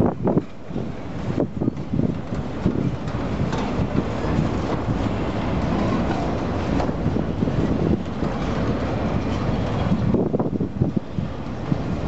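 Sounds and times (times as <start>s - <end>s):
train cars clanking: 0.0s - 12.0s
train wheels rumbling on rail: 0.0s - 12.0s
wind buffeting microphone: 0.0s - 12.0s.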